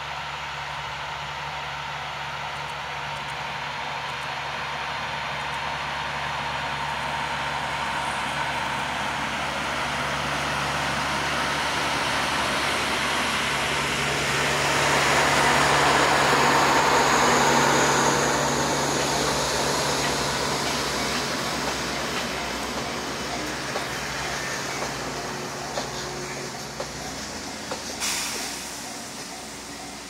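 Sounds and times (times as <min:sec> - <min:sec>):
diesel train engine drone: 0:00.0 - 0:30.0.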